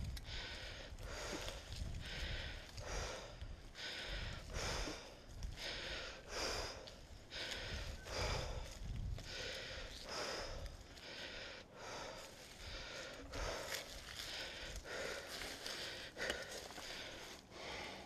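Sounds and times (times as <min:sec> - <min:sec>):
low rumble of movement: 0:00.0 - 0:17.8
heavy rhythmic breathing: 0:00.0 - 0:18.0.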